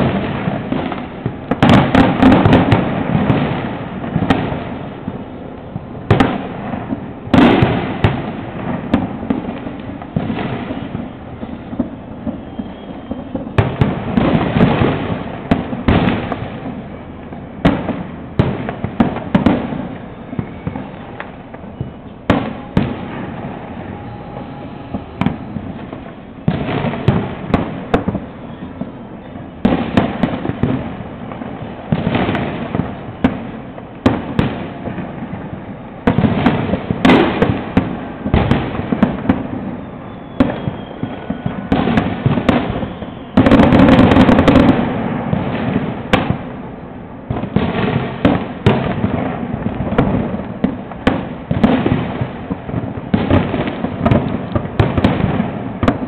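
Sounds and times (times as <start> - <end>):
firecracker pops crackling: 0.0 - 56.0
fireworks bangs: 0.0 - 56.0.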